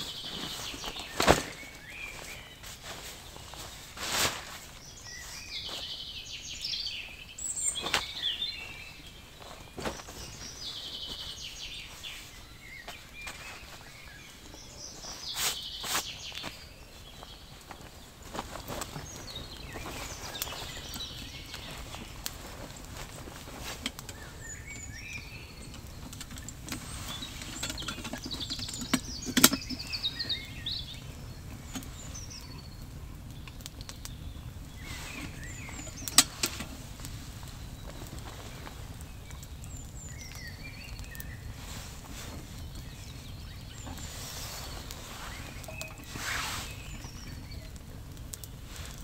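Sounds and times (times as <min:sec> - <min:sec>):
low steady wind noise: 0:00.0 - 0:49.0
small birds chirping: 0:00.0 - 0:49.0.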